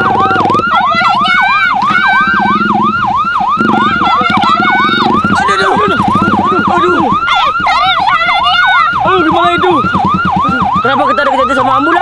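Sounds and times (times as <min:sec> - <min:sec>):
ambulance siren yelping: 0:00.0 - 0:12.0.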